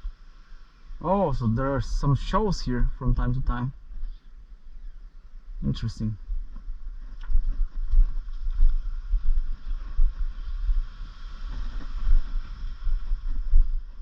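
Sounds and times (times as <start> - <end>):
faint steady hiss: 0.0 - 14.0
wind buffeting microphone: 0.0 - 14.0.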